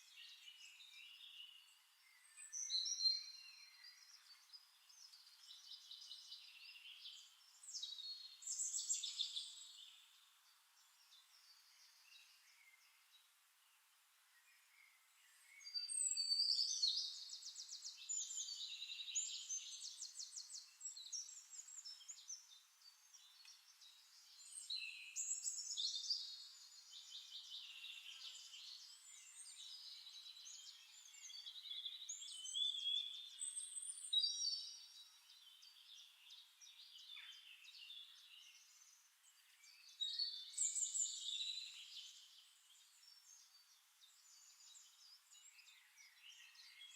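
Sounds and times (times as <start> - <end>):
songbirds singing high trills: 0.0 - 13.7, 14.3 - 46.9.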